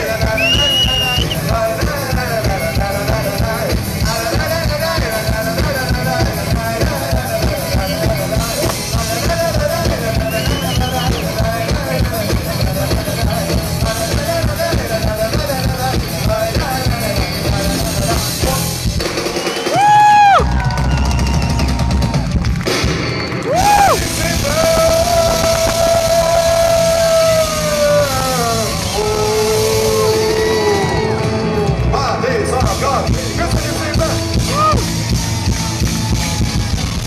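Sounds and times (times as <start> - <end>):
man singing: 0.0 - 19.0, 23.6 - 34.9
drum beat: 0.0 - 31.8, 32.5 - 37.0
electric guitars: 0.0 - 37.0
live pop-rock band playing: 0.0 - 37.0.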